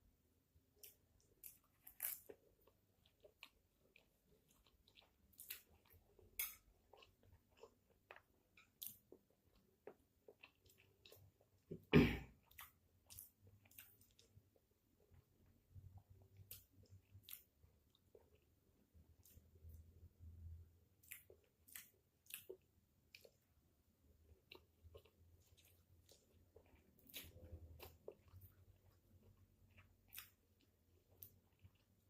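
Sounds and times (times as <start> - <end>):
wet chewing and smacking: 0.7 - 20.0, 20.9 - 32.0.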